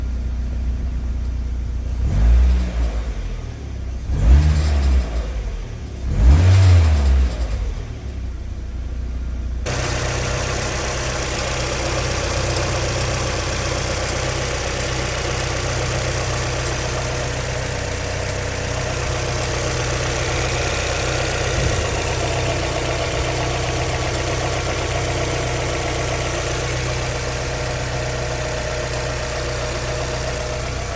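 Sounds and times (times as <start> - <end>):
car engine running: 0.0 - 30.9
car engine revving: 1.9 - 8.2, 9.7 - 30.9.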